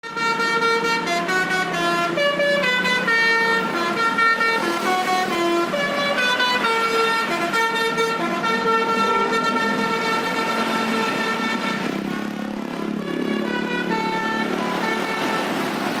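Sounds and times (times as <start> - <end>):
bus air horn playing a tune: 0.0 - 16.0.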